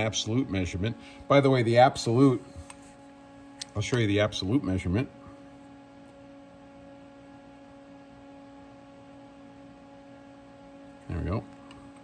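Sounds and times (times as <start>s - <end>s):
steady tonal hum: 0.0s - 12.0s.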